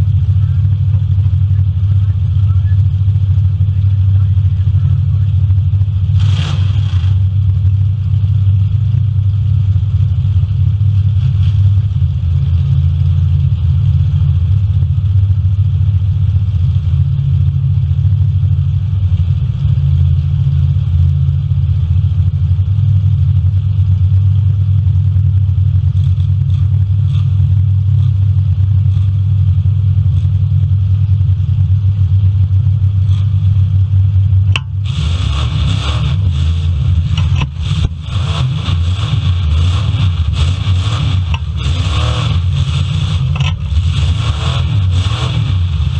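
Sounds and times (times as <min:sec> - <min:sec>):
car engines rumbling: 0:00.0 - 0:45.9.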